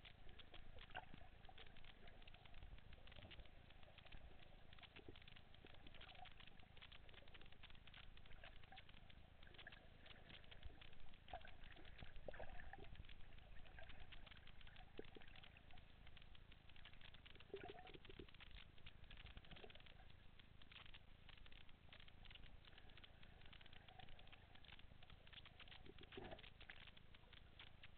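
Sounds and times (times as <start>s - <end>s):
dense crackle of tiny clicks: 0.0s - 27.9s.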